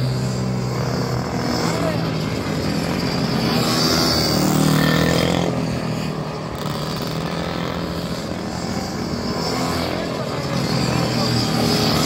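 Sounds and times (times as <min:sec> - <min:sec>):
mini motorcycle engines passing: 0:00.0 - 0:12.0.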